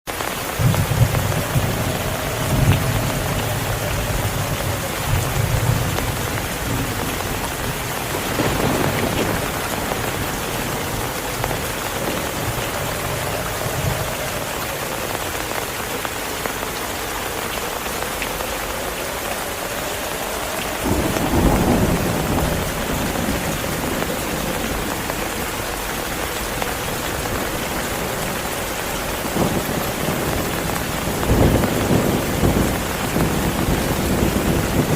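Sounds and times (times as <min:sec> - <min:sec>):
heavy rain: 0:00.1 - 0:34.9
thunder rolling: 0:00.2 - 0:34.9.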